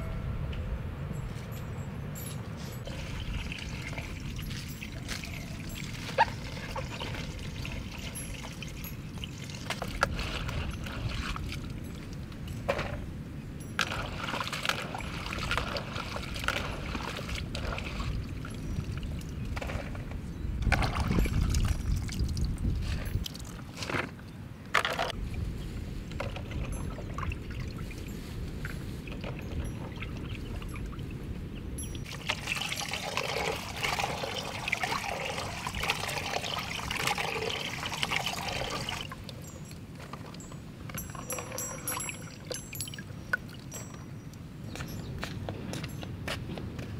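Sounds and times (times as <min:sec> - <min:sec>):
water splashing and trickling: 0:02.2 - 0:24.2, 0:24.8 - 0:45.0.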